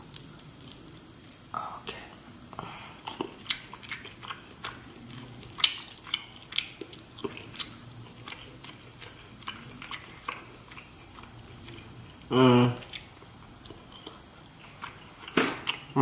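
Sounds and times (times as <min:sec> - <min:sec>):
person chewing: 0:00.0 - 0:02.0, 0:02.6 - 0:16.0.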